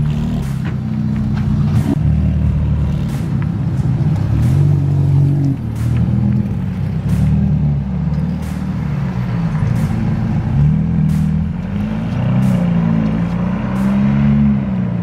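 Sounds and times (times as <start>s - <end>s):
car exhaust revving: 0.0s - 15.0s.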